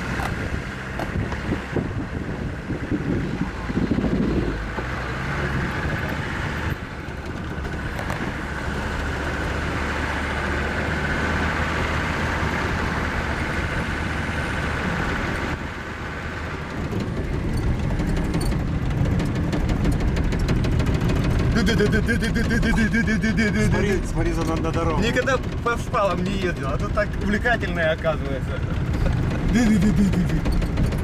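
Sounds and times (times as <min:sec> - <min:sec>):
off-road vehicle engine running: 0:00.0 - 0:31.0
tyre and road noise: 0:00.0 - 0:31.0.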